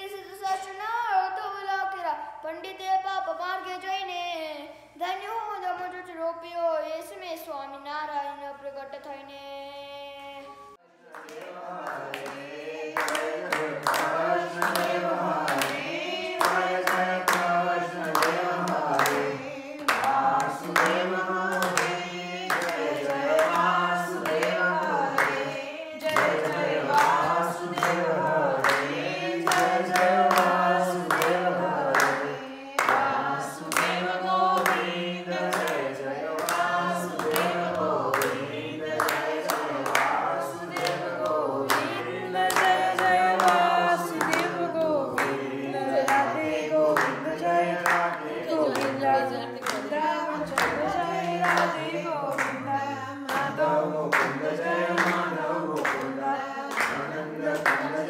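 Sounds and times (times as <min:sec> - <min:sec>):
group singing a hymn: 0:10.4 - 0:58.0
hand clapping: 0:11.1 - 0:58.0.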